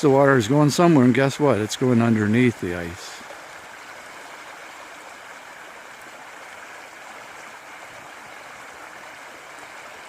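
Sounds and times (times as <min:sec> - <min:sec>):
creek water rushing over rapids: 0:00.0 - 0:10.0.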